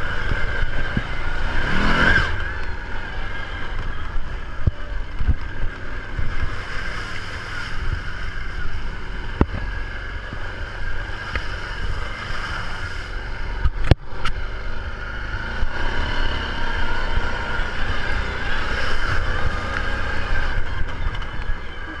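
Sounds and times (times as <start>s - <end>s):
atv engine running: 0.0s - 22.0s
wind rumbling on microphone: 0.0s - 22.0s.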